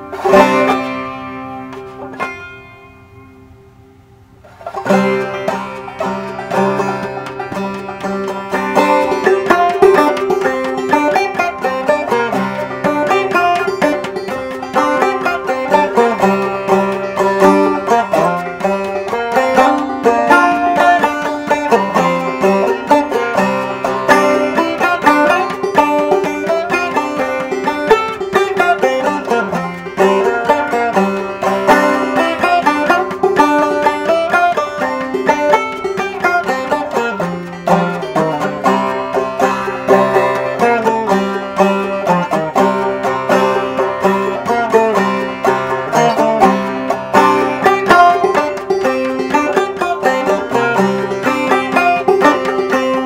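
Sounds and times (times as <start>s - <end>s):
banjo plucking: 0.0s - 53.0s.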